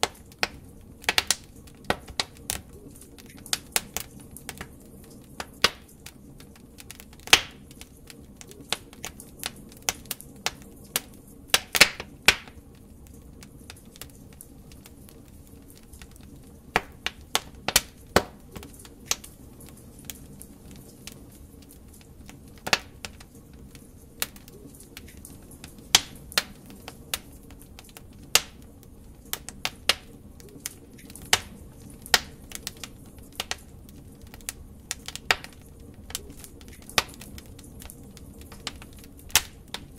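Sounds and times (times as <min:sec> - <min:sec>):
fire hissing: 0:00.0 - 0:39.9
wood fire crackling: 0:00.0 - 0:39.9.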